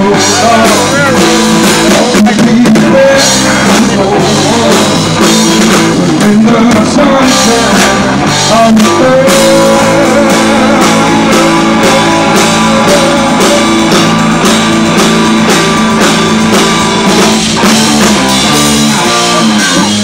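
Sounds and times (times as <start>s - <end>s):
acoustic guitar: 0.0s - 20.0s
drum kit beat: 0.0s - 20.0s
electric guitar: 0.0s - 20.0s.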